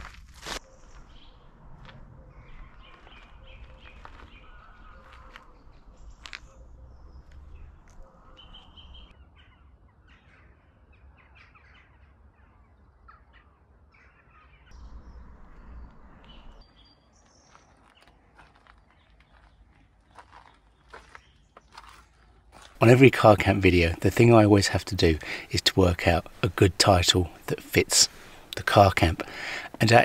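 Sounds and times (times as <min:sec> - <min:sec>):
birds calling: 0:00.6 - 0:30.0.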